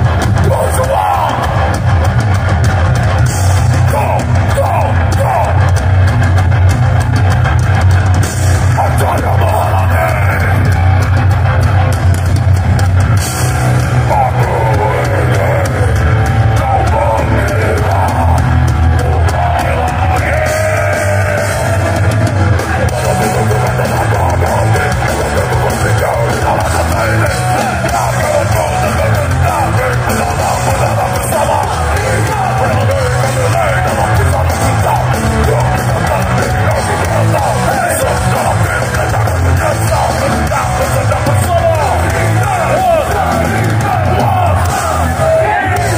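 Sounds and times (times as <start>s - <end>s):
bass: 0.0s - 45.9s
distorted electric guitars: 0.0s - 45.9s
drums: 0.0s - 45.9s.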